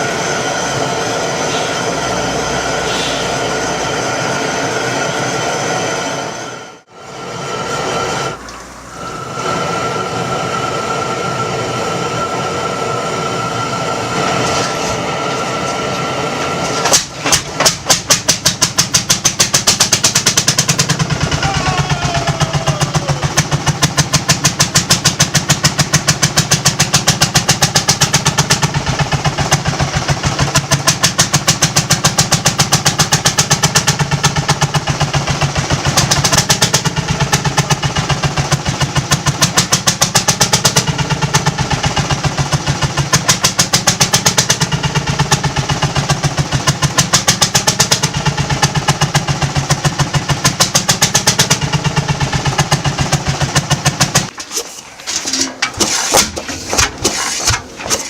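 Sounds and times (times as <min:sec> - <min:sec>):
old engine running: 0:06.9 - 0:58.0.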